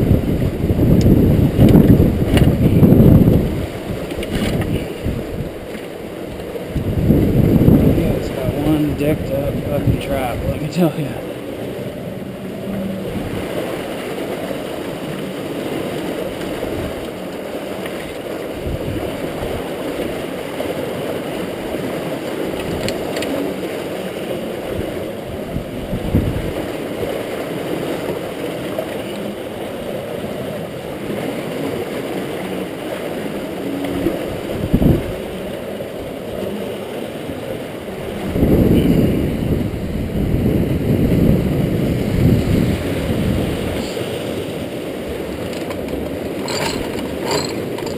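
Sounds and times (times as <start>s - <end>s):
river water rushing and gurgling: 0.0s - 47.9s.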